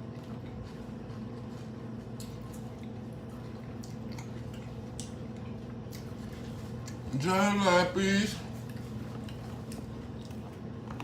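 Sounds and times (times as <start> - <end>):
person chewing food: 0.0 - 7.2, 8.4 - 11.0
low electrical hum: 0.0 - 11.0.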